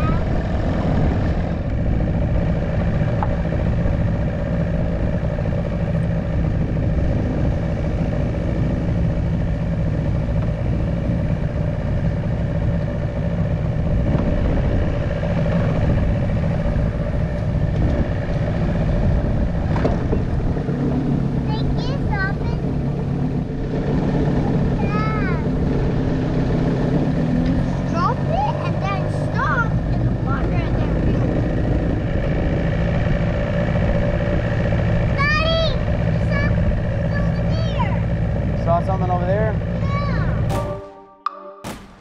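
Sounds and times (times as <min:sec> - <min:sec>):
outboard motor droning: 0:00.0 - 0:40.5.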